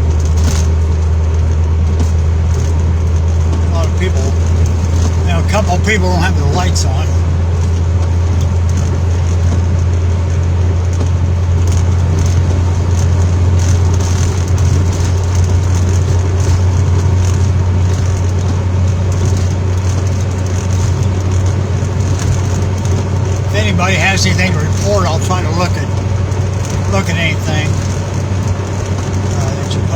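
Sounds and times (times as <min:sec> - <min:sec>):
car cabin road and engine drone: 0:00.0 - 0:29.9.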